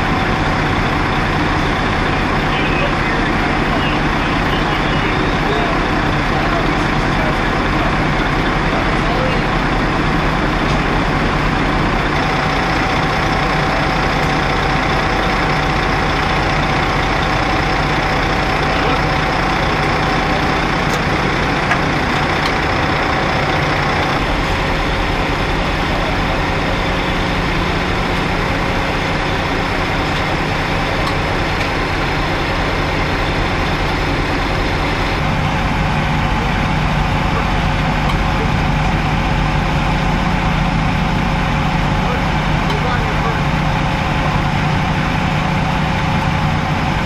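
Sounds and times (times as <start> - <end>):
heavy vehicle engine idling: 0.0 - 47.0.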